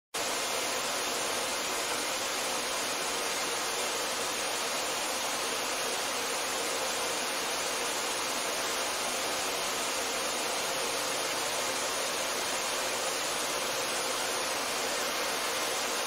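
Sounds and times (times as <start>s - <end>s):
vacuum cleaner running: 0.4s - 16.0s.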